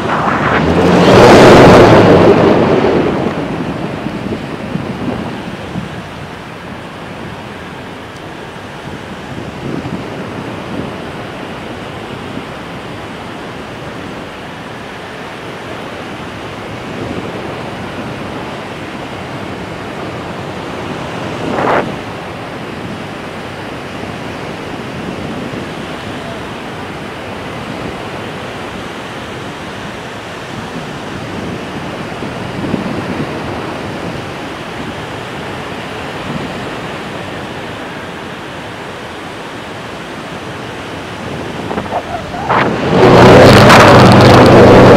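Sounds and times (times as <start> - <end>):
breaking surf: 0.0 - 44.9
wind buffeting microphone: 0.0 - 44.9.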